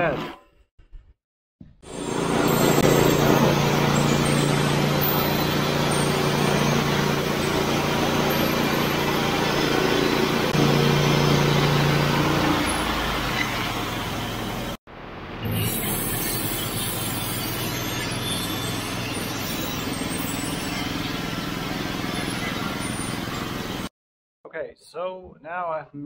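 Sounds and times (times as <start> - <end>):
sawmill gas engine running: 1.8 - 14.8, 15.7 - 23.9.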